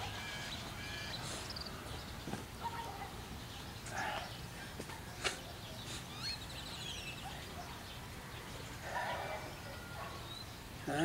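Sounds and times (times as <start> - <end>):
bird trill: 0.0 - 4.4, 5.1 - 10.7
birds chirping: 0.0 - 11.0.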